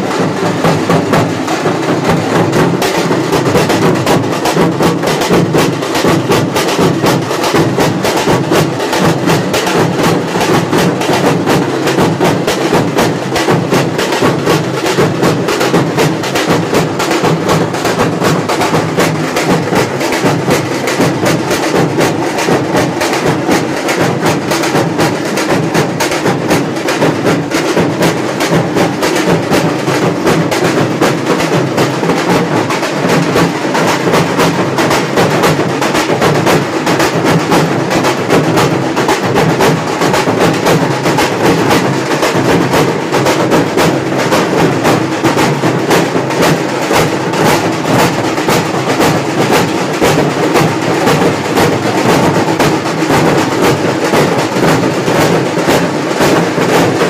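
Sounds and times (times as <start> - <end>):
fast drumming: 0.0 - 57.0.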